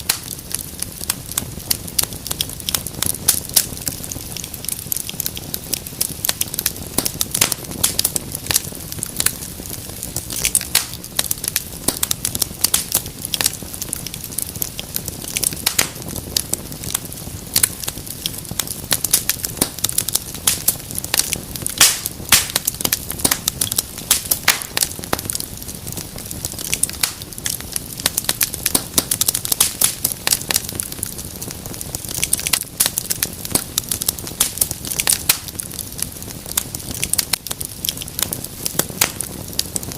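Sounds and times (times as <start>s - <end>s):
fire crackling and popping: 0.0s - 39.9s
low rush of flame: 0.0s - 39.9s.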